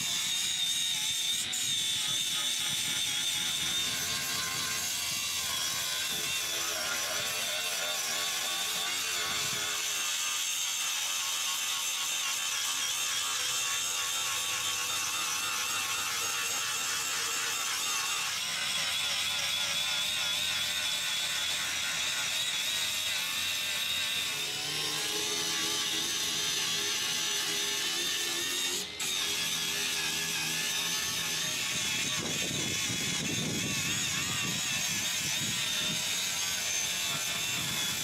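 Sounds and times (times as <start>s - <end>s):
power tool grinding metal: 0.0s - 38.0s.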